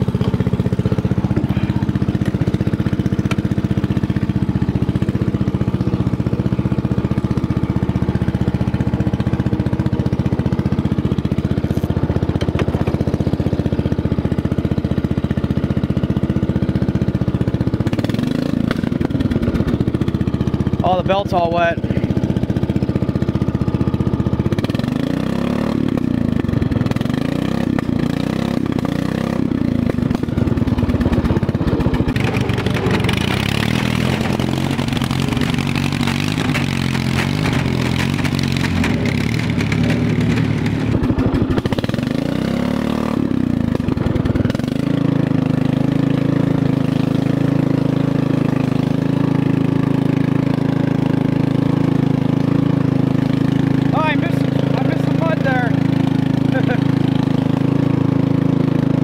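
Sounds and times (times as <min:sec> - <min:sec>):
lawn tractor engine revving: 0:00.0 - 0:59.0.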